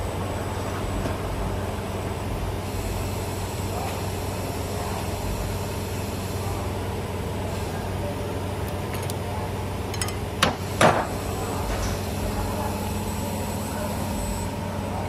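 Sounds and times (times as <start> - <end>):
wire forming machine hum: 0.0 - 15.0.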